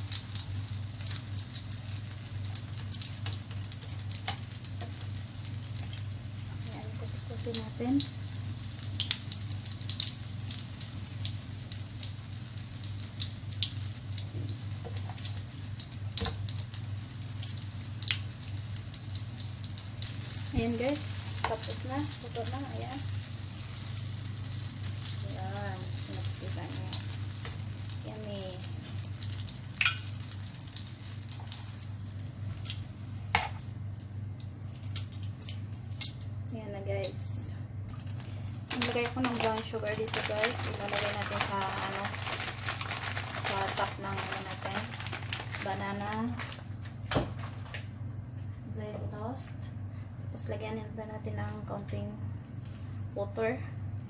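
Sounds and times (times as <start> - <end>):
oil sizzling and popping: 0.0 - 48.8, 51.4 - 54.0
steady low hum: 0.0 - 54.0.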